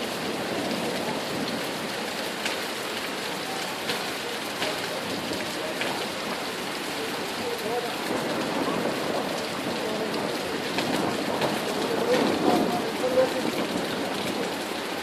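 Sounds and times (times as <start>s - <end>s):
heavy rain pouring: 0.0s - 15.0s
sharp raindrops striking close: 0.0s - 15.0s.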